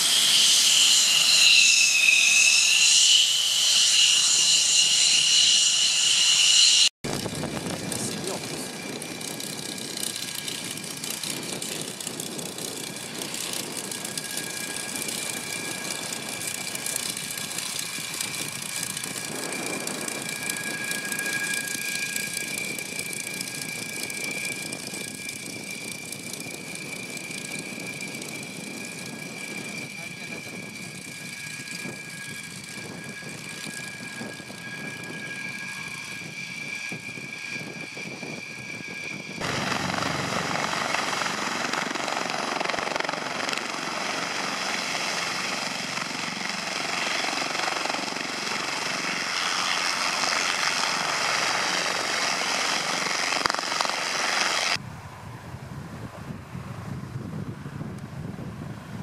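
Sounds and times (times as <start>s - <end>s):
helicopter rotor noise: 0.0s - 59.0s
piston engines with high whine: 0.0s - 59.0s.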